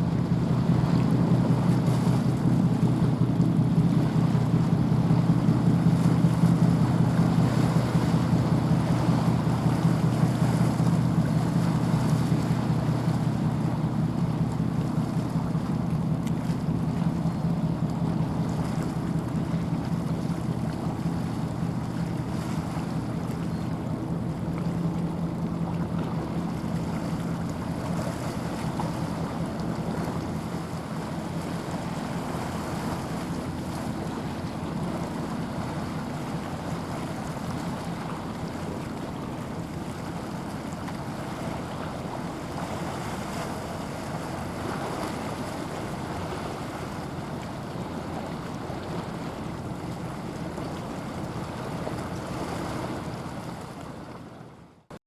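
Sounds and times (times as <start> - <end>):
ship engine humming: 0.0 - 54.9.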